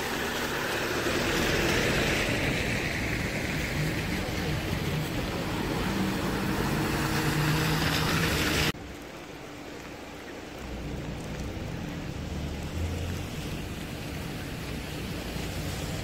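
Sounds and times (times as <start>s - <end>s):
distant traffic: 0.0s - 16.0s
rain and rushing water: 0.0s - 16.0s.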